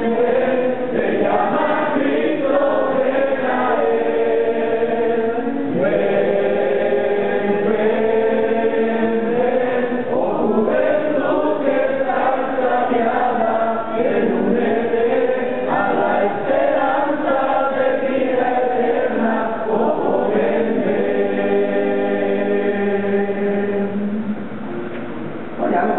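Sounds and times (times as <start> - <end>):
group singing a hymn: 0.0 - 24.5, 25.6 - 25.9.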